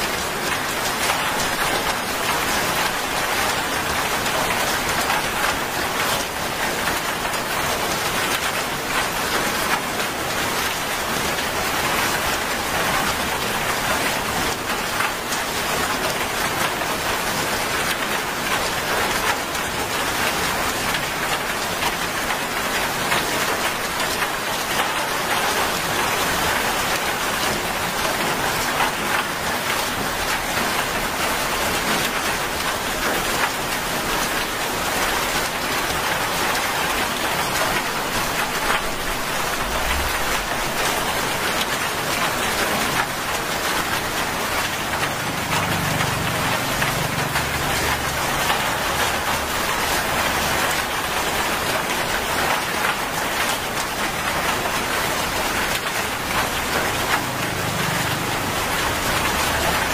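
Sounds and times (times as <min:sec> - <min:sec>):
heavy rain on wet road: 0:00.0 - 0:59.9.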